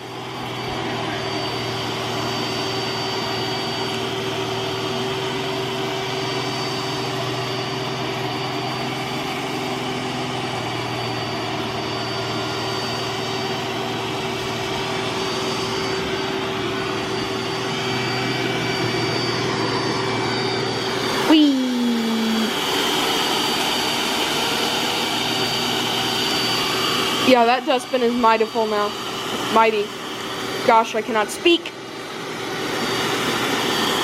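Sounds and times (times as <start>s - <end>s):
high motor whine: 0.0s - 34.0s
robot vacuum running: 0.0s - 34.0s.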